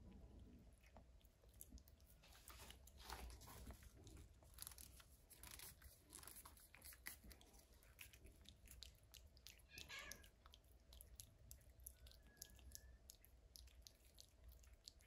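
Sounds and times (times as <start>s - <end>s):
cat licking and lip-smacking: 0.0s - 15.0s.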